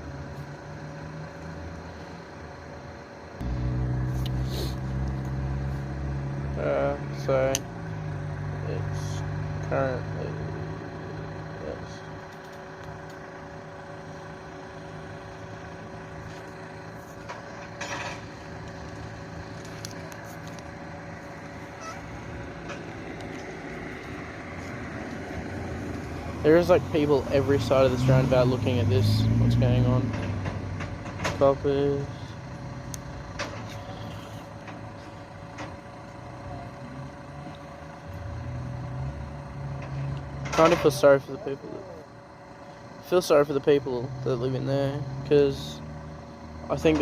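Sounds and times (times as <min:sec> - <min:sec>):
street noise: 0:00.0 - 0:47.0
vehicle engine idling: 0:00.0 - 0:47.0.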